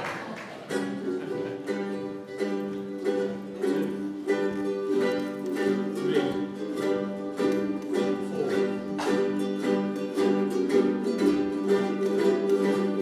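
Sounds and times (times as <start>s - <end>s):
ukulele ensemble strumming chords: 0.0s - 13.0s.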